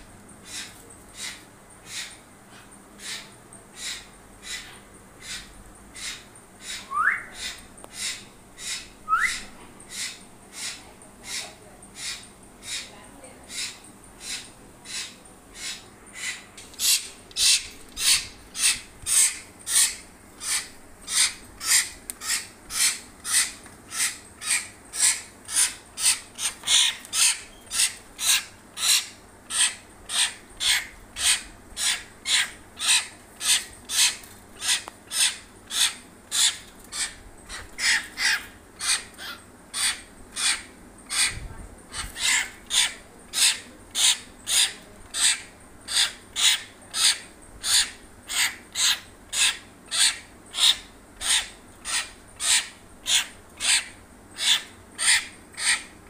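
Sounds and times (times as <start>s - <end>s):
myna harsh rasping call: 3.8s - 55.9s.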